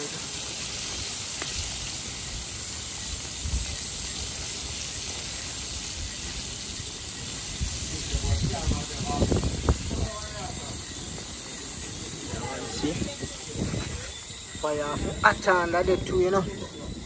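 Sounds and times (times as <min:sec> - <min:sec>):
fish sizzling in hot oil: 0:00.0 - 0:14.8.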